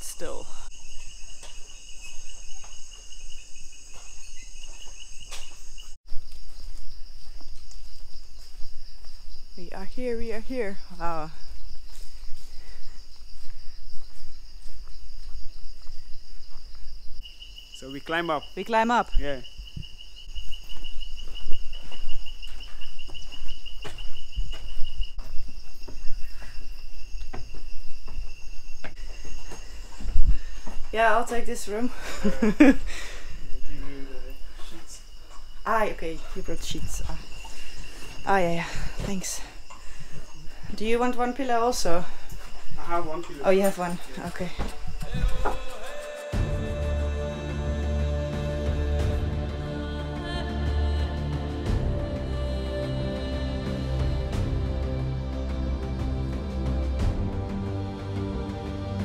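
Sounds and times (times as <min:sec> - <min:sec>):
insects and crickets chorus: 0:00.0 - 0:59.0.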